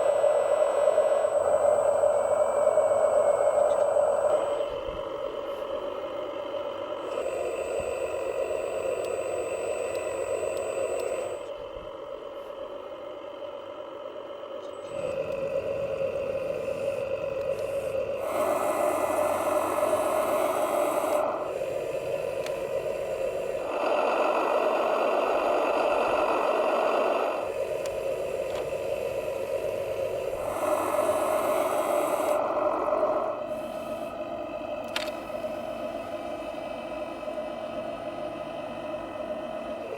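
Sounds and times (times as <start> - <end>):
electric motor whining: 0.0 - 5.8, 6.7 - 11.9, 14.8 - 39.9
lower hum: 0.0 - 39.9.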